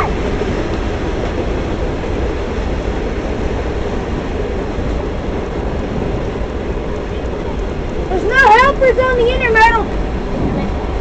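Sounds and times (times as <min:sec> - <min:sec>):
train wheels rolling on track: 0:00.0 - 0:11.0.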